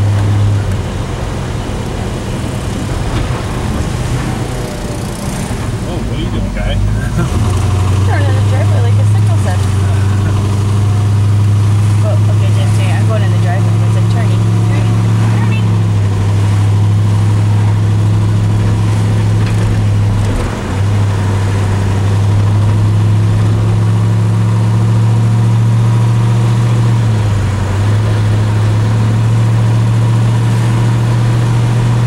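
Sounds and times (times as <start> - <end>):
car engine drone from cabin: 0.0 - 32.0.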